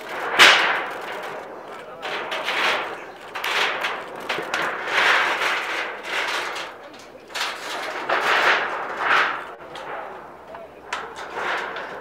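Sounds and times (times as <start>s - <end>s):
crowd voices: 0.0s - 12.0s.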